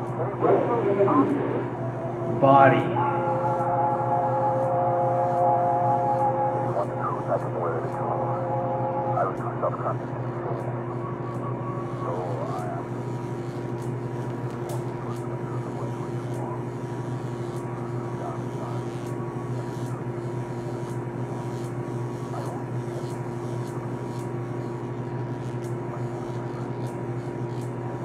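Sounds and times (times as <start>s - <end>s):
constant tones: 0.0s - 28.0s
low mechanical hum: 0.0s - 28.0s.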